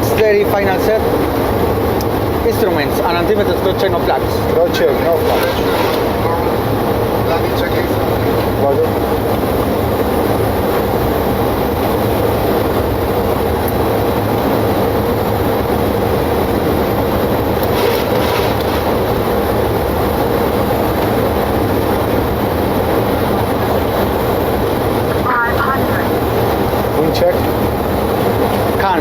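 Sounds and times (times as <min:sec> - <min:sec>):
jet engines: 0:00.0 - 0:29.0
rushing airflow: 0:00.6 - 0:25.3.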